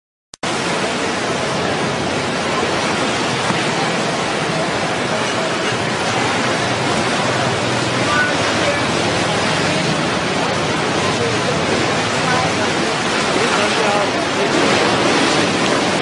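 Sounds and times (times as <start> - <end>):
rushing river roar: 0.5 - 16.0.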